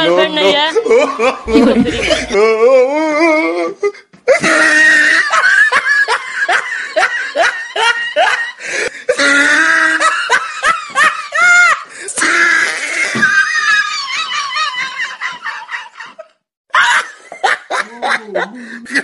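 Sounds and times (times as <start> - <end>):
loud laughter: 0.8 - 2.6, 4.3 - 8.6, 9.2 - 19.0.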